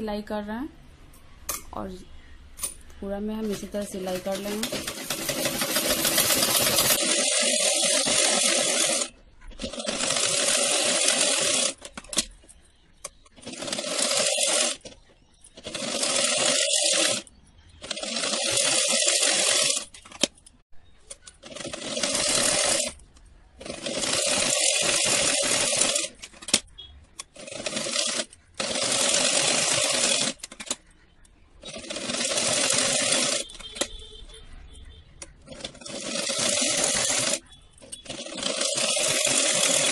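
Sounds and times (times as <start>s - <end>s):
sewing machine stitching: 3.4s - 20.4s, 21.0s - 39.9s.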